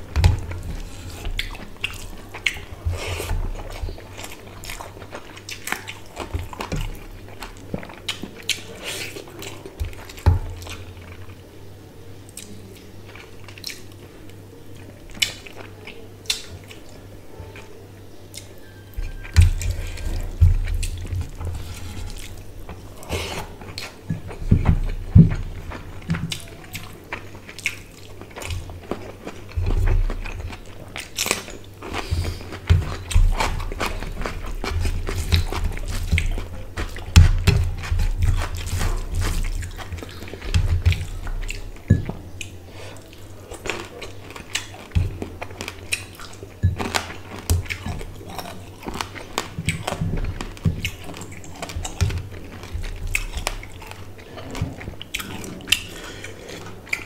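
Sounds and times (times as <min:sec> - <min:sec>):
wet chewing: 0:00.0 - 0:11.4, 0:12.2 - 0:57.0.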